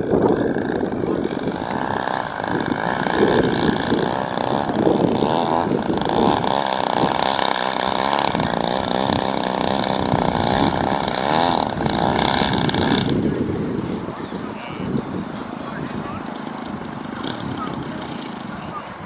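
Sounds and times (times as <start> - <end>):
model airplane engine running hard: 0.0 - 19.0.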